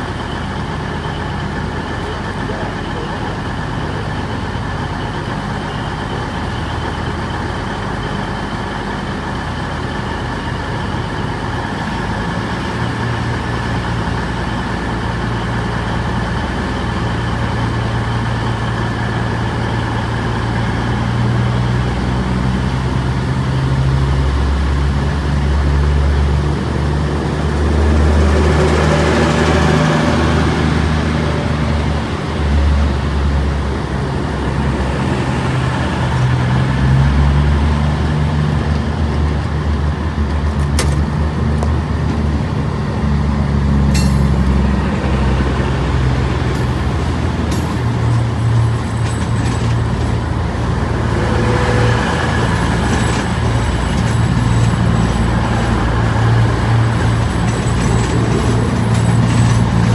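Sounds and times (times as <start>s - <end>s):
train diesel engines droning: 0.0s - 59.9s.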